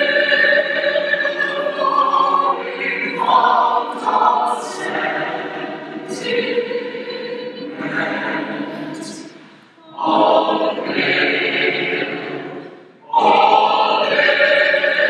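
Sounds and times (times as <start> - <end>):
mixed chorus singing unaccompanied: 0.0 - 15.0.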